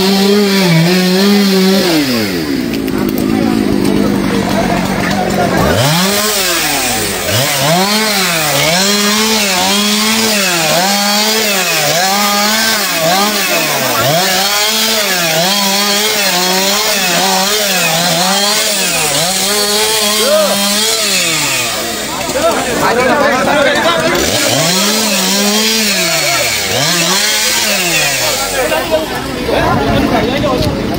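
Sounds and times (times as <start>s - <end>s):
chainsaw cutting wood: 0.0s - 29.5s.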